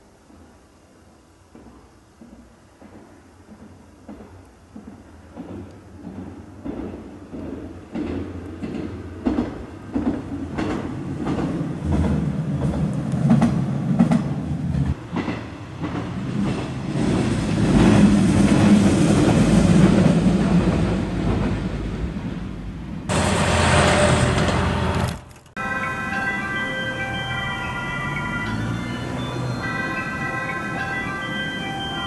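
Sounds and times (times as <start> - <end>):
railcar rumbling: 0.0 - 32.0.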